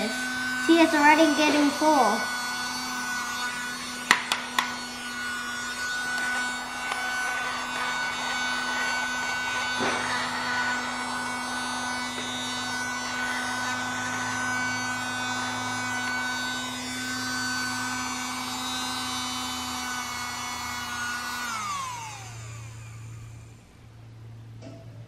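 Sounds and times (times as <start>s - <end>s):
handheld vacuum motor whining: 0.0s - 24.5s.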